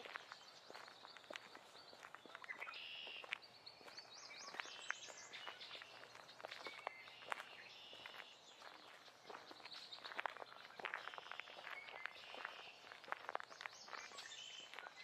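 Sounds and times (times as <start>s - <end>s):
footsteps on forest floor: 0.0s - 15.0s
songbirds singing: 0.0s - 15.0s.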